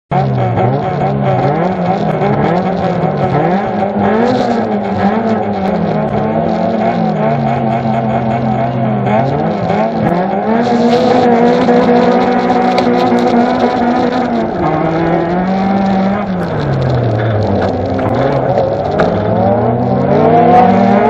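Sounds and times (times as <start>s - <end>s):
car engine revving: 0.1s - 21.0s.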